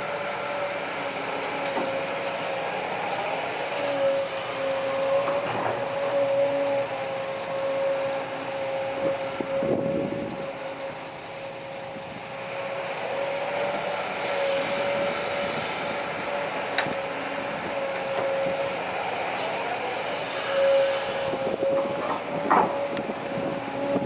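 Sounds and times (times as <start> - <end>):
diesel machinery whining: 0.0 - 24.0.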